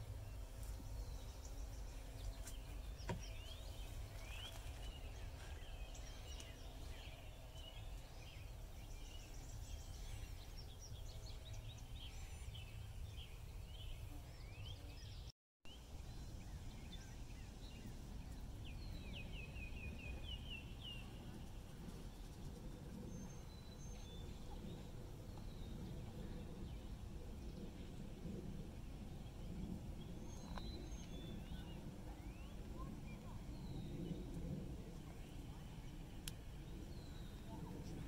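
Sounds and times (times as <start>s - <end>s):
low outdoor rumble: 0.0s - 14.6s, 15.7s - 38.0s
small birds chirping: 0.0s - 38.0s.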